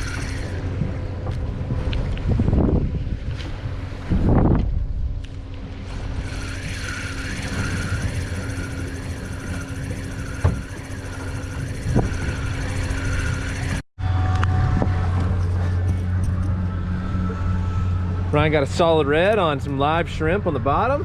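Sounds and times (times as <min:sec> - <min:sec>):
motor humming and whining: 0:00.0 - 0:21.0.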